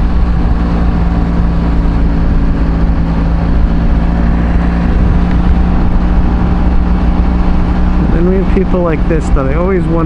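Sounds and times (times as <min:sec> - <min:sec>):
motorcycle engine cruising: 0:00.0 - 0:10.0
riding wind rush: 0:00.0 - 0:10.0.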